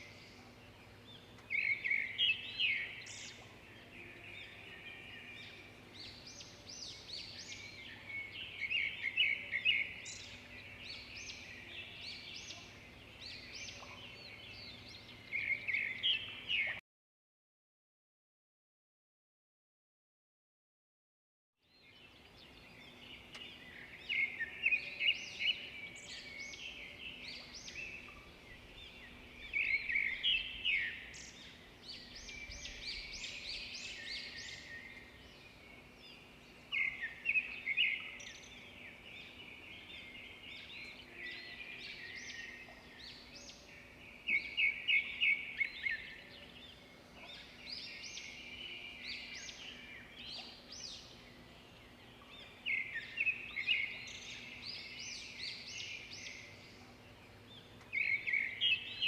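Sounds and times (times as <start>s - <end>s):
birds chirping and singing: 0.0s - 16.8s, 21.6s - 59.0s.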